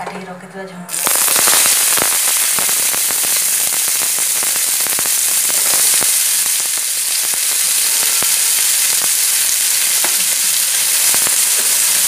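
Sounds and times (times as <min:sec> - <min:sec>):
vegetables sizzling in hot oil: 0:00.9 - 0:12.0
crackling oil pops: 0:01.0 - 0:12.0.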